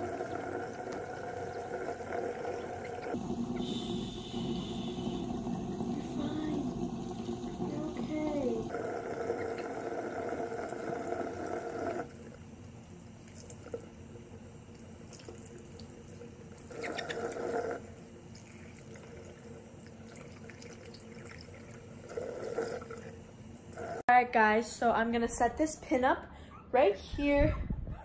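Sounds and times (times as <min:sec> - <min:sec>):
faucet water splashing: 0:00.0 - 0:24.0.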